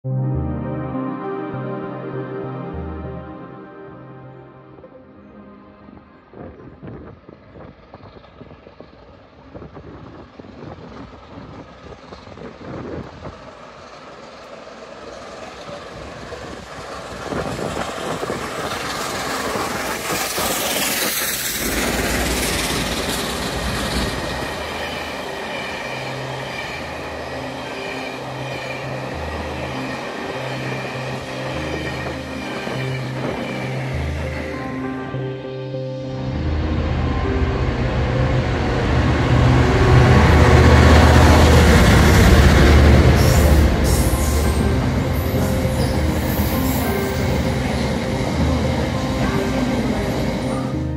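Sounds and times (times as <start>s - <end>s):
diesel engine drone: 0.1s - 50.9s
steam locomotive passing: 5.6s - 50.9s.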